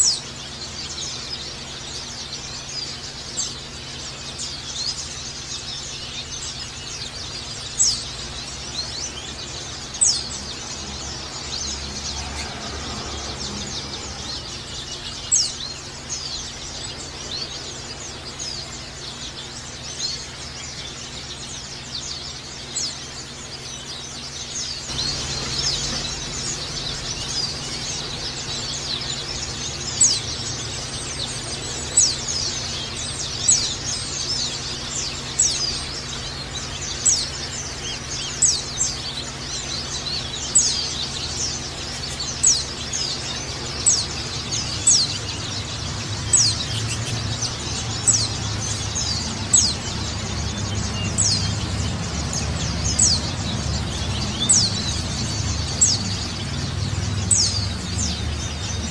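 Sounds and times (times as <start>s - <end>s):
bird chirping and twittering: 0.0s - 58.9s.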